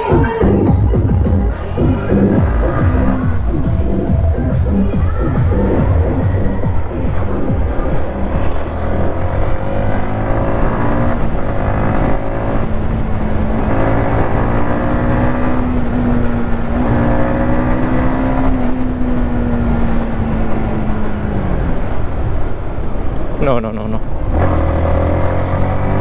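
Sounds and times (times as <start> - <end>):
wind noise: 0.0 - 26.0.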